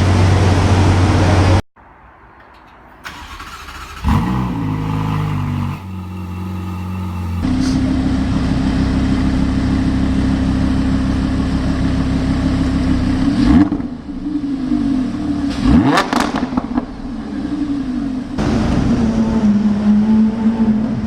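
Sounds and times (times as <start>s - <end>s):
car engine revving: 3.0s - 21.0s.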